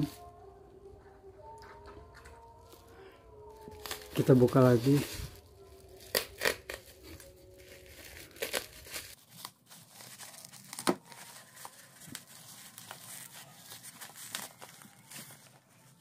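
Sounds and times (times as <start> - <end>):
bubble-wrap mailer crinkling: 2.7 - 16.0.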